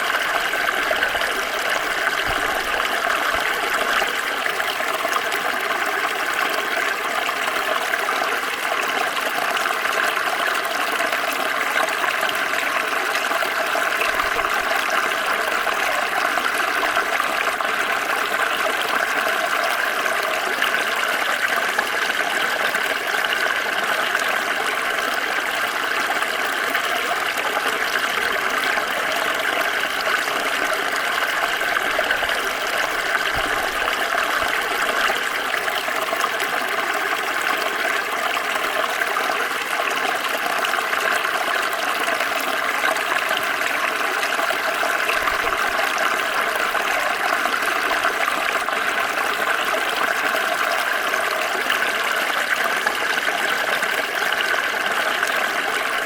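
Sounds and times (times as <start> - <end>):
stream burbling over stones: 0.0 - 56.0.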